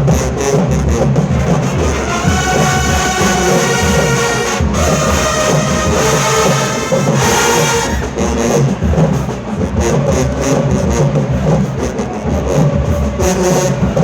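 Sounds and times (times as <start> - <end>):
brass chords: 0.0 - 14.0
drum line beat: 0.0 - 14.0.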